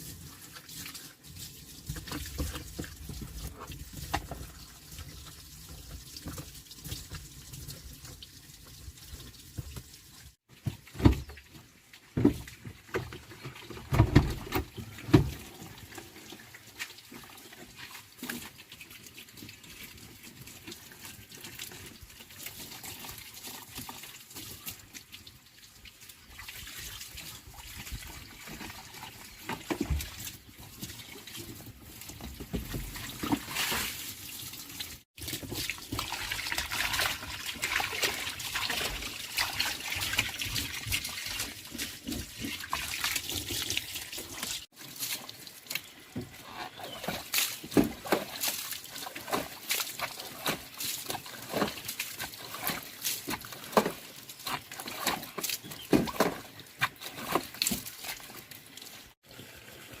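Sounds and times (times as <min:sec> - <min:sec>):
water trickling and splashing: 0:00.0 - 1:00.0.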